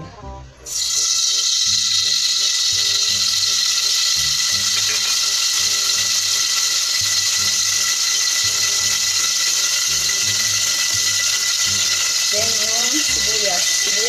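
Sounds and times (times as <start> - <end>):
gas burner hissing: 0.6 - 14.0.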